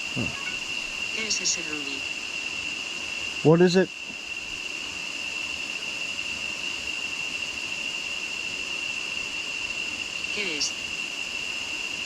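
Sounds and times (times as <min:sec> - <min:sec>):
jungle insects droning: 0:00.0 - 0:12.0.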